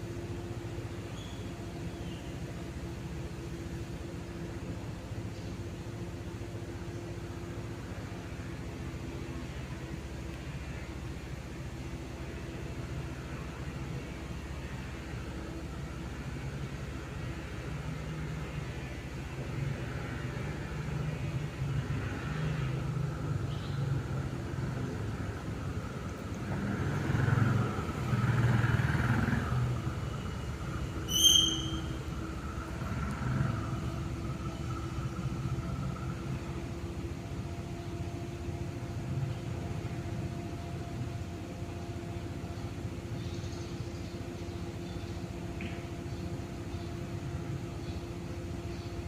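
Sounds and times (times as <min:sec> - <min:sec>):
ceiling fan humming: 0:00.0 - 0:49.0.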